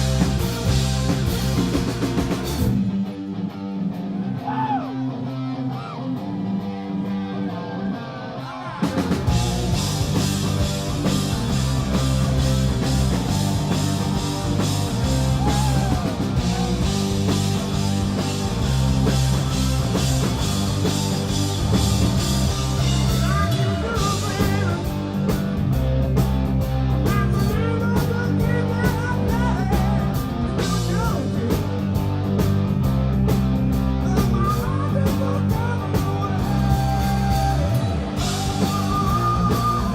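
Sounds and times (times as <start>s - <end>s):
hard rock band playing live: 0.0s - 39.9s.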